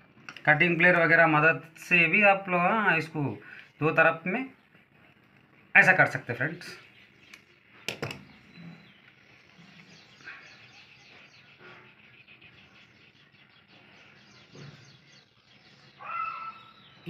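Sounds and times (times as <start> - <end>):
faint bird chirping: 2.9 - 17.0.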